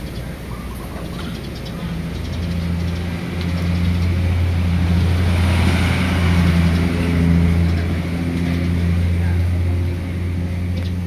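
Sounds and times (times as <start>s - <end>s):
low engine rumble: 0.0s - 11.0s
vehicle passing with hiss: 0.0s - 11.0s.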